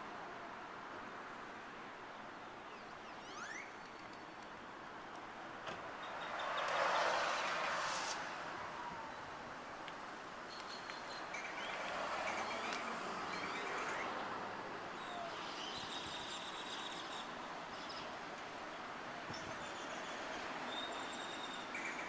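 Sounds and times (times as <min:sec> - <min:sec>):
soft steady outdoor noise: 0:00.0 - 0:22.0.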